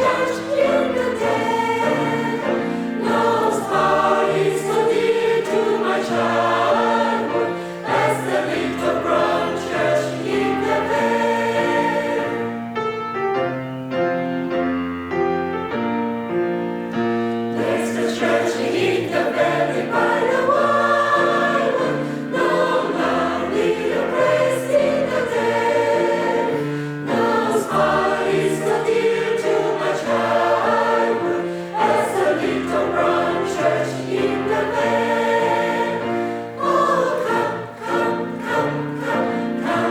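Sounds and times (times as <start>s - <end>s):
choir singing in harmony: 0.0s - 13.1s, 16.6s - 39.9s.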